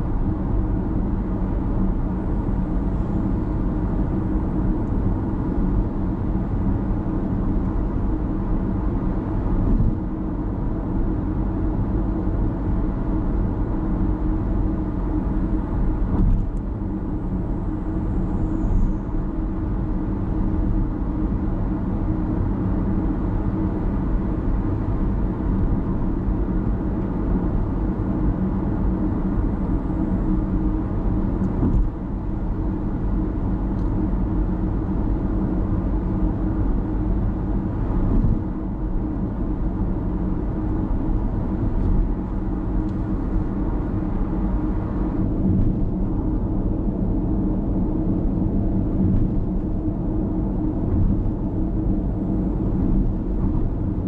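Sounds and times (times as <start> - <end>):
car tyre and engine drone: 0.0 - 54.0.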